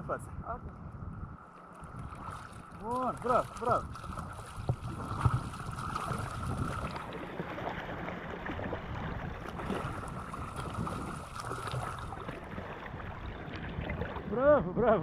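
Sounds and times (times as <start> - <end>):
wind on microphone: 0.0 - 15.0
water splashing: 1.6 - 14.5.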